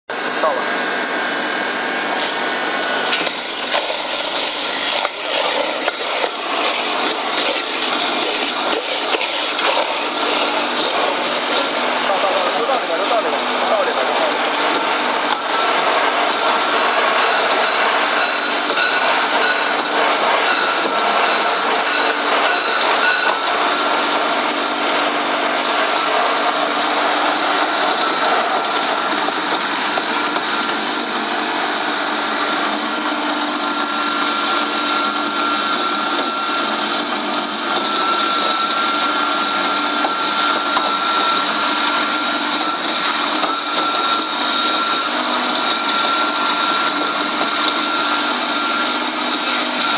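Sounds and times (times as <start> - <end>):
bone grinder motor whine: 0.1 - 49.9.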